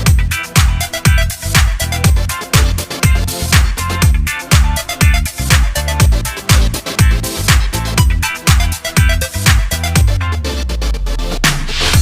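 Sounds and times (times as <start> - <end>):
kick drum: 0.0 - 10.3, 11.4 - 12.0
hi-hats: 0.0 - 10.4, 11.4 - 12.0
dance music: 0.0 - 12.0.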